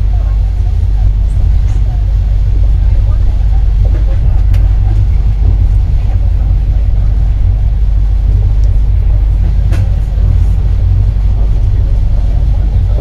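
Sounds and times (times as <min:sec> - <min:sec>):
train carriage rumbling on track: 0:00.0 - 0:13.0.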